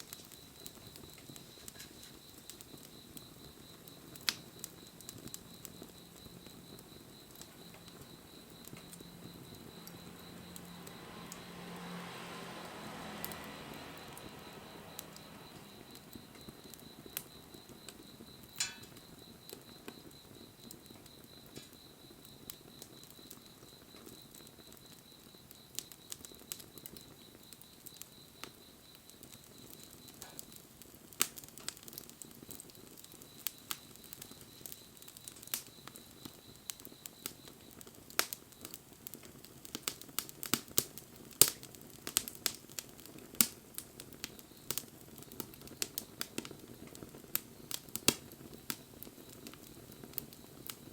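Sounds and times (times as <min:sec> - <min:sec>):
low fire hiss: 0:00.0 - 0:50.9
wood fire crackling and popping: 0:00.0 - 0:50.9.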